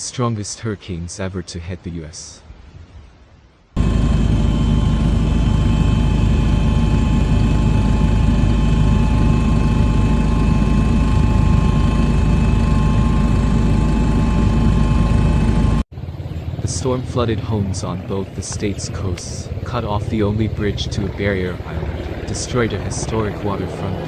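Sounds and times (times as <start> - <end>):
aircraft engine rumble: 3.8 - 24.0
high engine whine: 3.8 - 24.0.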